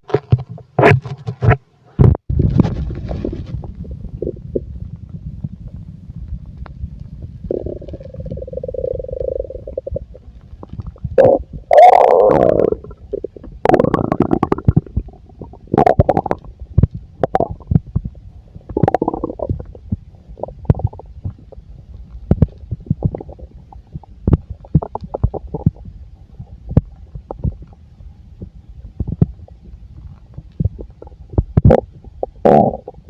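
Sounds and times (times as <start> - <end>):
stomach gurgling and rumbling: 0.0 - 33.0
small pops and crackles: 4.6 - 11.7, 12.6 - 27.8, 28.4 - 33.0.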